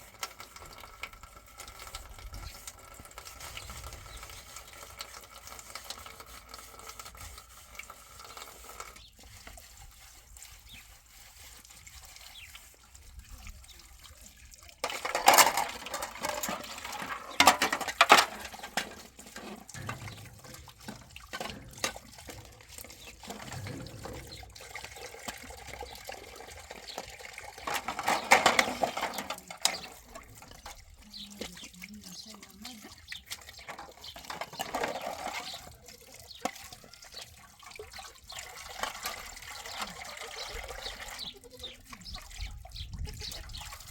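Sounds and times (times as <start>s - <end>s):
water pouring and splashing: 0.0s - 43.9s.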